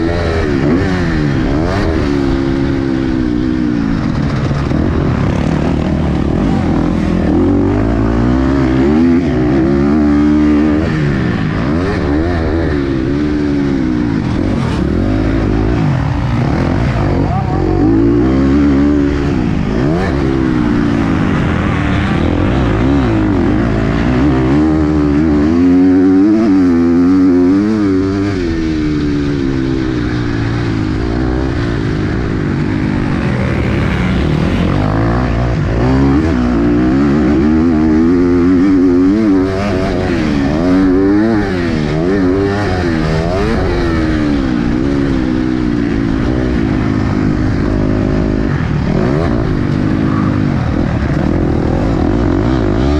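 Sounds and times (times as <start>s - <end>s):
motocross engine revving: 0.0s - 52.9s.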